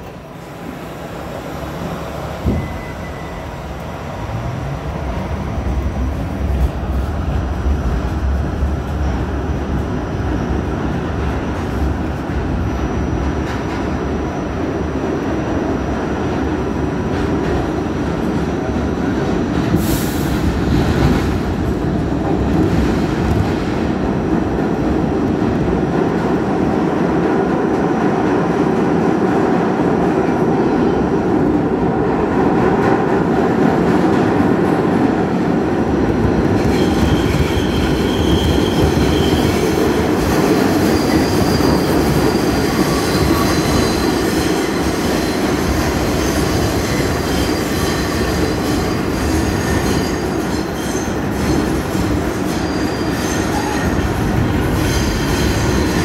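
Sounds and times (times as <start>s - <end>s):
subway motors whining: 0.0s - 56.0s.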